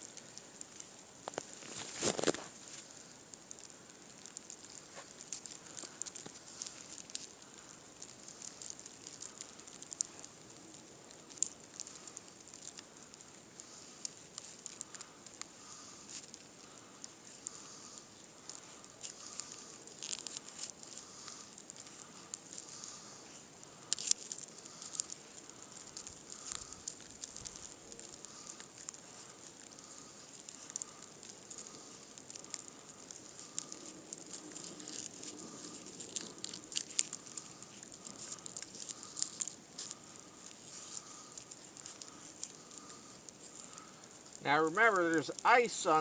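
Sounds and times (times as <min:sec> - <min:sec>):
knife shaving frozen wood: 0:00.0 - 0:46.0.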